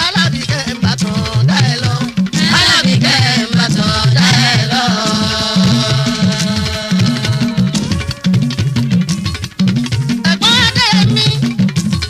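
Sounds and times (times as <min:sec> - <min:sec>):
percussion-led band music: 0:00.0 - 0:12.0.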